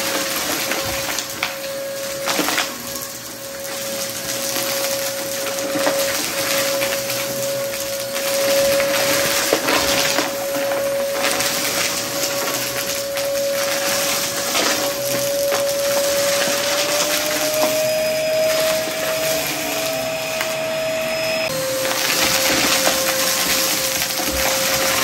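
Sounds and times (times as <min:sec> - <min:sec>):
crunchy debris being sucked up: 0:00.0 - 0:20.6, 0:21.4 - 0:25.0
vacuum cleaner motor whine: 0:00.0 - 0:25.0.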